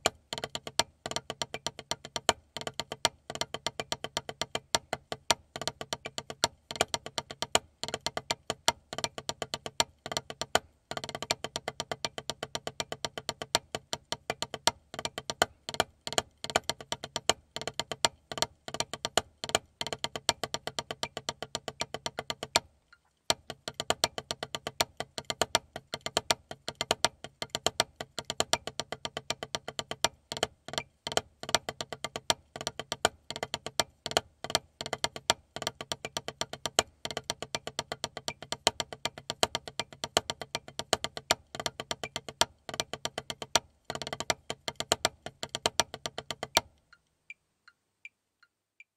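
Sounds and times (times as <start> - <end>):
drumsticks tapping practice pad: 0.0 - 47.0.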